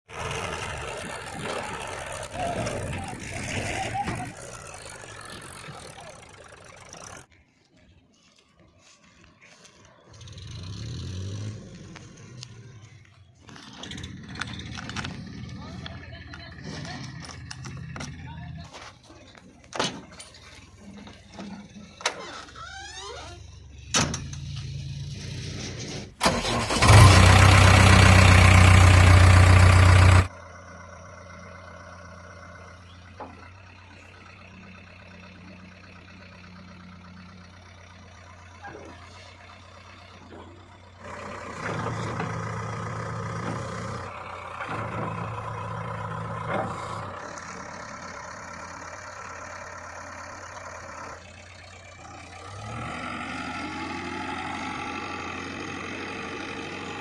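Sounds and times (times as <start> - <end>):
diesel engine revving and idling: 0.1 - 57.0.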